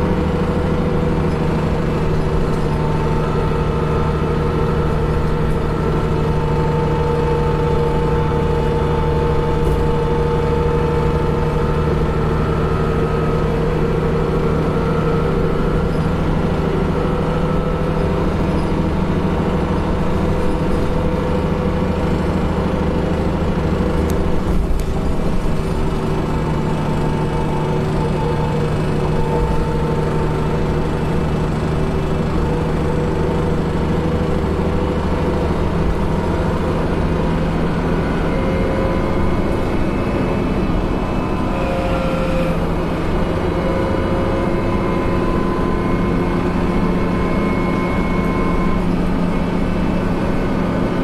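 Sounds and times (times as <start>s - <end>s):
bus engine drone: 0.0s - 51.0s.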